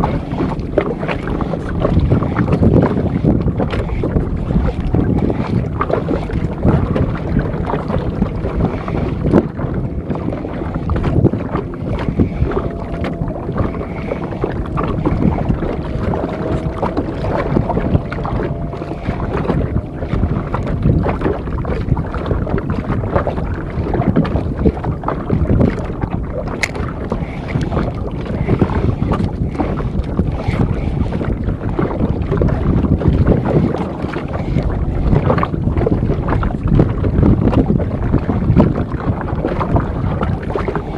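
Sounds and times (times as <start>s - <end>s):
waves slapping against boat hull: 0.0s - 40.9s
wind buffeting microphone: 0.0s - 40.9s.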